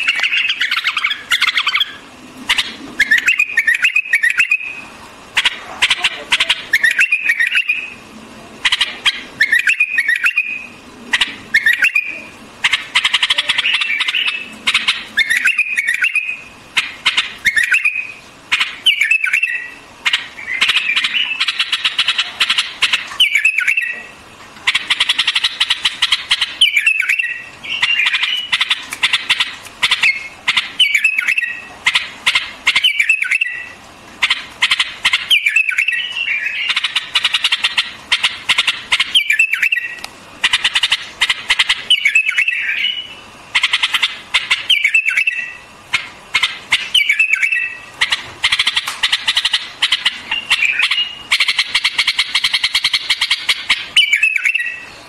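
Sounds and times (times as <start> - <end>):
bird singing warbled phrases: 0.0 - 55.0
rapid rattling bird chatter: 8.6 - 54.9.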